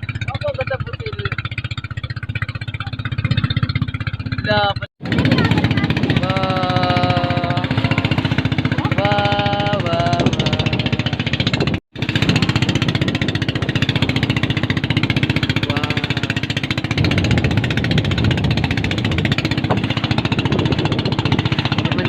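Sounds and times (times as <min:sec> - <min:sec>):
motorboat engine running: 0:00.0 - 0:22.0.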